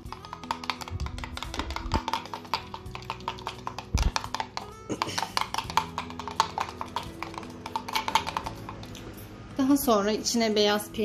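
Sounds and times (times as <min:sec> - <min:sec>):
spoon clicking against bowl: 0:00.0 - 0:09.0
background music: 0:00.0 - 0:11.0.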